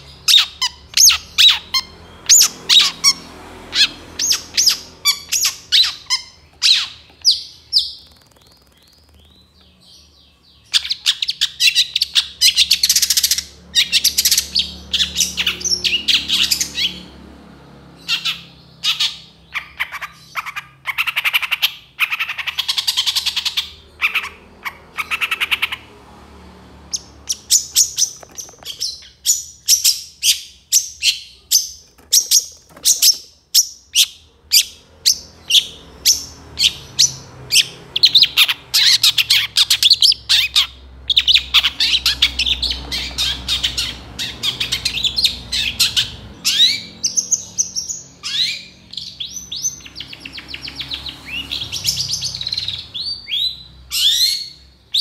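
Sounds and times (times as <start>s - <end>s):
harsh bird squawking: 0.0s - 10.1s, 10.7s - 17.2s, 18.0s - 25.9s, 26.9s - 55.0s.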